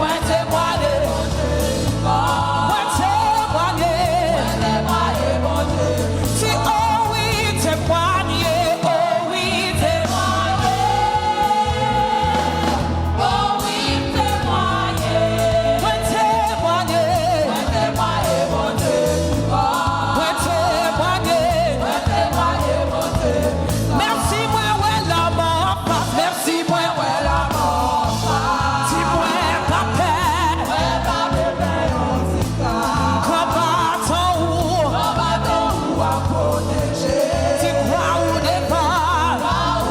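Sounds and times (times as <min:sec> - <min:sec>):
band playing with bass line: 0:00.0 - 0:39.9
people singing worship song: 0:00.0 - 0:39.9.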